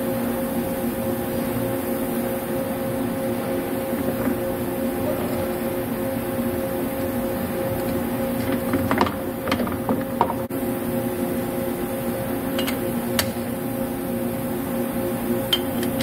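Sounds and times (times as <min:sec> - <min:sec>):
workshop machinery humming: 0:00.0 - 0:16.0.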